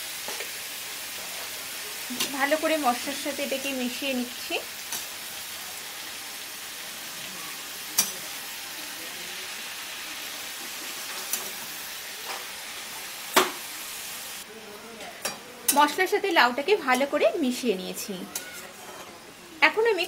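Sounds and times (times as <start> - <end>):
gourd sizzling in hot oil: 0.0 - 20.0.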